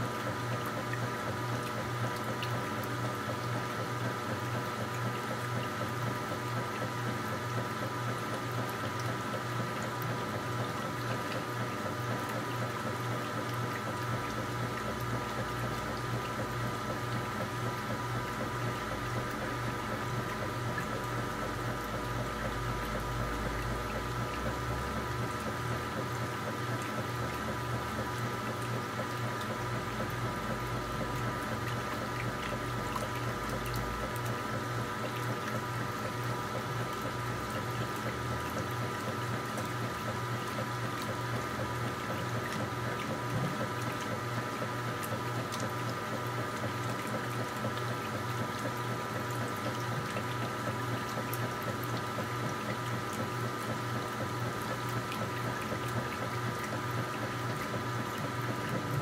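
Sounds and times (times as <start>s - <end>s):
washing machine hum: 0.0s - 59.0s
washing machine water sloshing: 0.0s - 59.0s.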